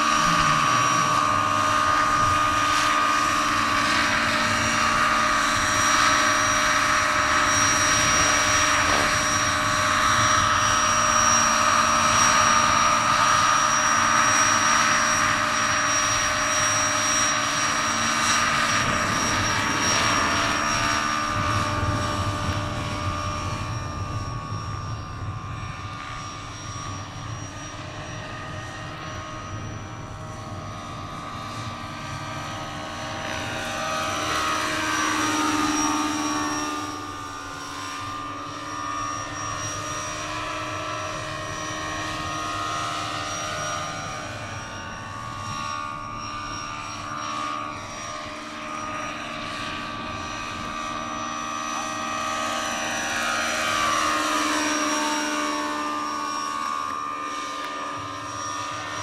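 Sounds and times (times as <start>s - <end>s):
model helicopter rotor whine: 0.0s - 59.0s.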